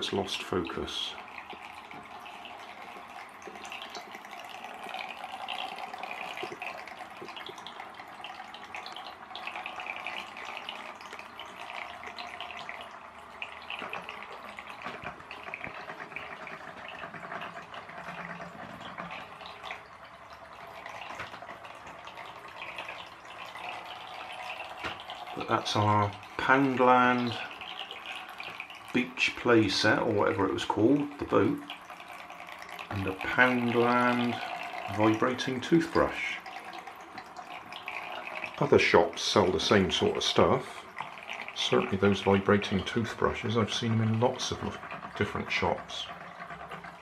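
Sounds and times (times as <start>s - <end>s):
propeller splashing bath water: 0.0s - 47.0s.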